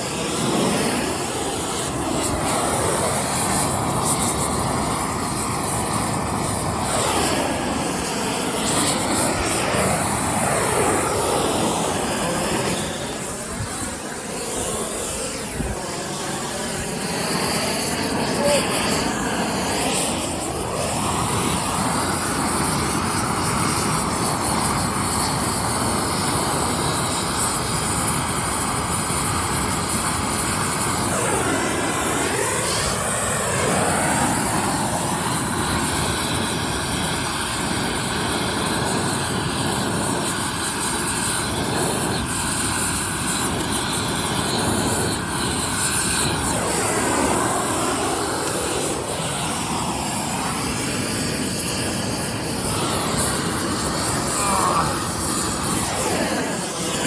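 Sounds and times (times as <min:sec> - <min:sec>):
propane torch burning: 0:00.0 - 0:57.0.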